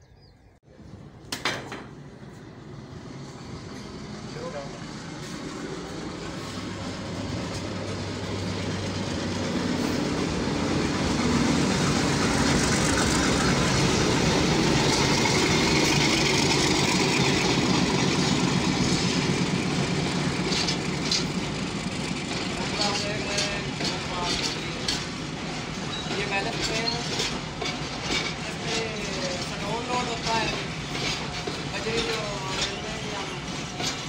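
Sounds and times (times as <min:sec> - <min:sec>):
diesel locomotive passing: 0:00.6 - 0:34.0.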